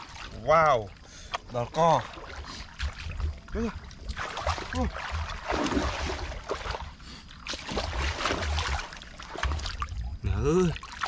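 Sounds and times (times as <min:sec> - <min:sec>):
muddy water sloshing and splashing: 0:00.0 - 0:11.0.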